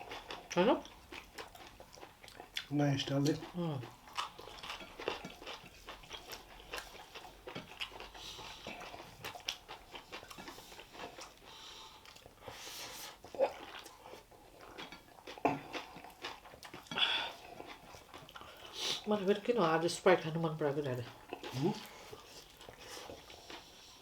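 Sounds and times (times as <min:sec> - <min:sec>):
person chewing and lip-smacking: 0:00.0 - 0:19.1, 0:21.0 - 0:24.0.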